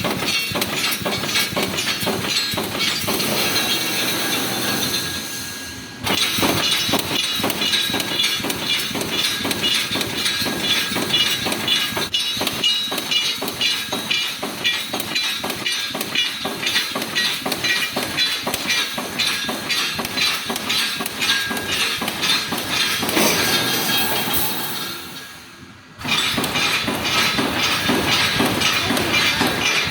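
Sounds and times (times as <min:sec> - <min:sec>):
welding machine clanking: 0:00.0 - 0:29.9.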